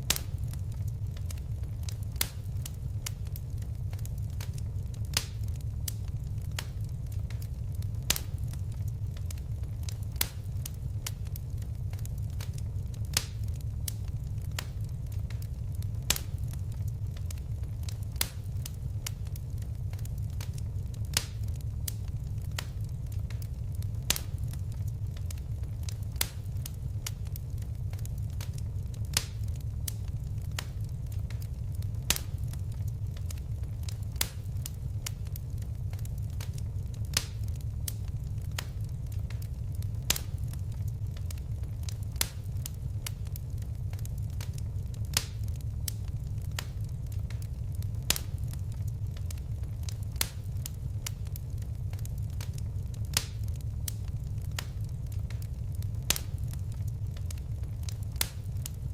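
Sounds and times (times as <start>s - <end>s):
sharp pops of burning wood: 0.0s - 58.8s
fireplace fire crackling: 0.0s - 58.9s.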